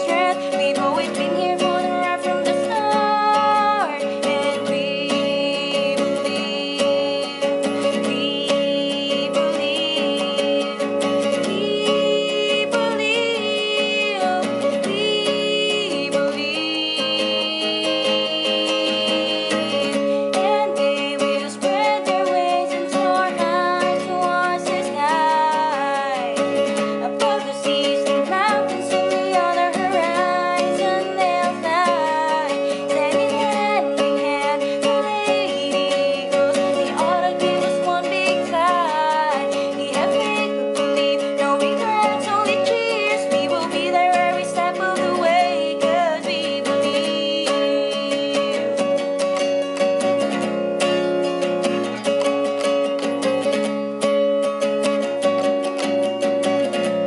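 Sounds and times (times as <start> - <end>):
person singing: 0.0 - 53.9
acoustic guitar strumming: 0.0 - 57.0.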